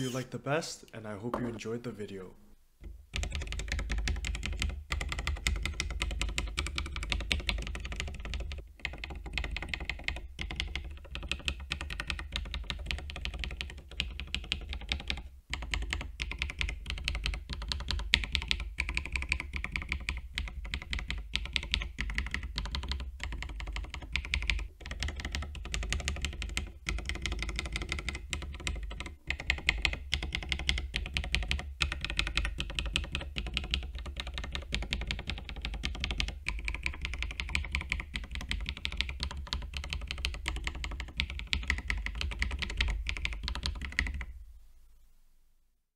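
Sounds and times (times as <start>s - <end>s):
mechanical keyboard typing: 3.1s - 44.3s.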